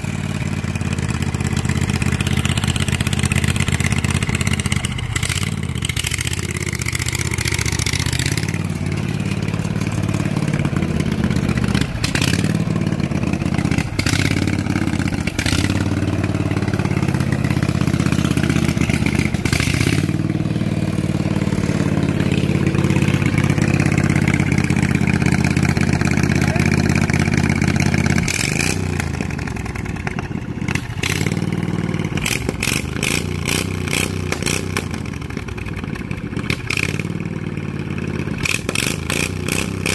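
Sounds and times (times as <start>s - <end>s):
lawn tractor engine revving: 0.0s - 39.9s.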